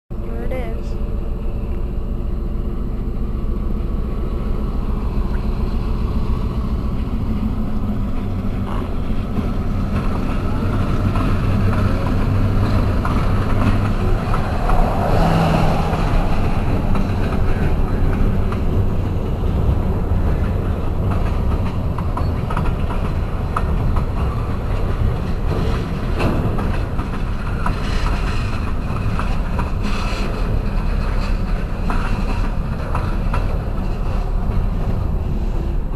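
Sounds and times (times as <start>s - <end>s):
diesel locomotive rumble: 0.1s - 35.9s
wheels clicking over rail joints: 1.6s - 35.9s.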